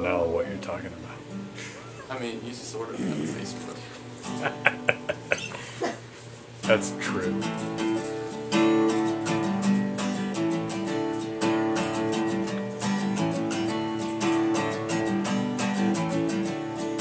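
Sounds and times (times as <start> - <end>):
acoustic guitar strumming chords: 3.0 - 17.0.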